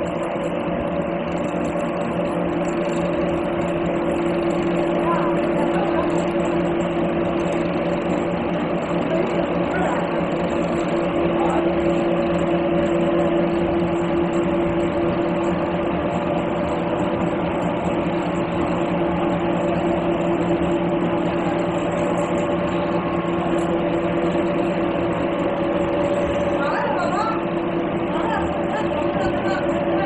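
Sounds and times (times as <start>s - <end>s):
oil expeller mechanical hum: 0.0s - 30.0s.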